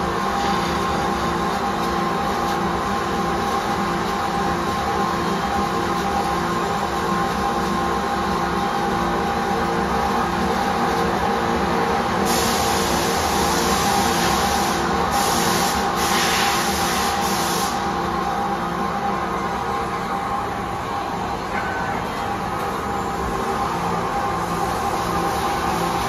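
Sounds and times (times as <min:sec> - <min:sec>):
lathe machine hum: 0:00.0 - 0:26.0.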